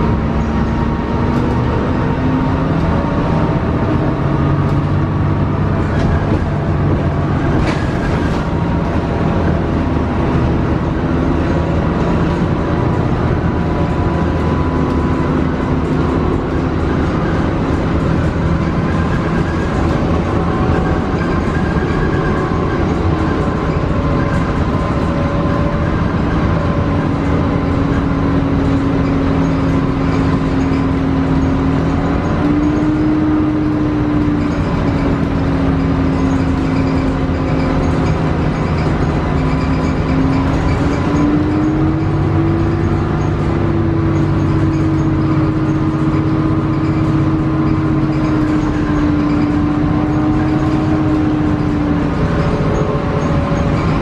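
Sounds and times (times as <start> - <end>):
bus drivetrain droning: 0.0 - 54.0
road rumble: 0.0 - 54.0.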